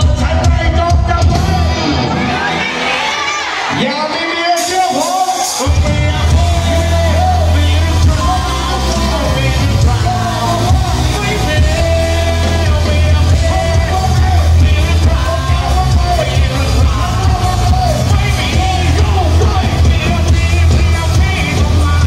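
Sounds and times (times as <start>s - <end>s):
man singing into microphone: 0.0s - 2.9s, 3.7s - 22.0s
crowd shouting: 0.0s - 22.0s
live band with heavy bass: 0.0s - 22.0s.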